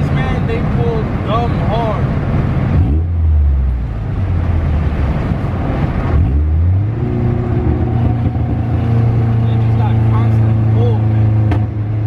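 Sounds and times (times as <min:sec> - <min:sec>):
car engine running: 0:00.0 - 0:12.0
road and cabin rumble: 0:00.0 - 0:12.0.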